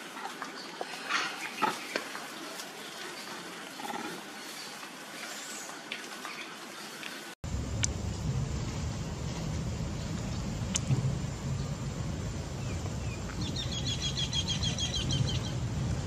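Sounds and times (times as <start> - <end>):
leaves and twigs rustling: 0.0 - 16.0
steady background hiss: 0.0 - 16.0.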